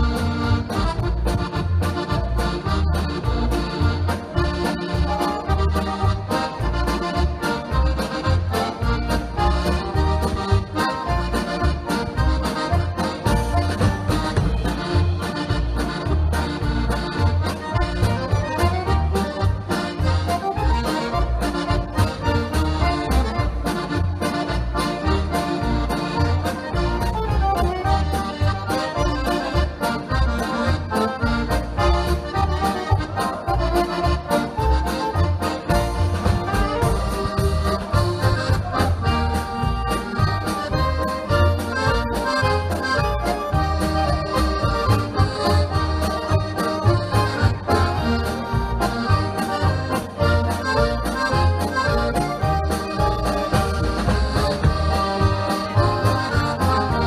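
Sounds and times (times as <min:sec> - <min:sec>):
instrumental music with bass beat: 0:00.0 - 0:57.0.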